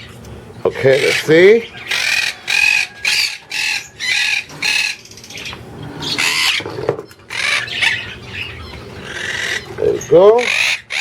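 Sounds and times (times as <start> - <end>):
parrots squawking: 0.0 - 11.0.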